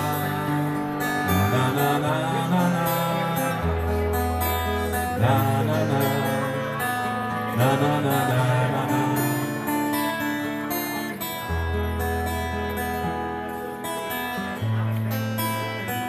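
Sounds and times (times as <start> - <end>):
acoustic guitar strummed and picked: 0.0 - 16.0.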